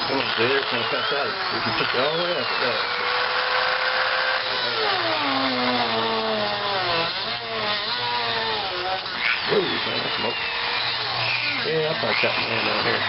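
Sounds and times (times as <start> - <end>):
rotary tool cutter disc whining: 0.0 - 13.0.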